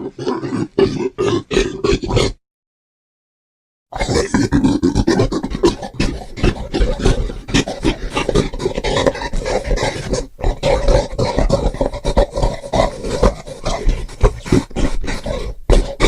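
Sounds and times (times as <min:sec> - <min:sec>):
creature growls and grunts: 0:00.0 - 0:02.4, 0:03.9 - 0:16.0.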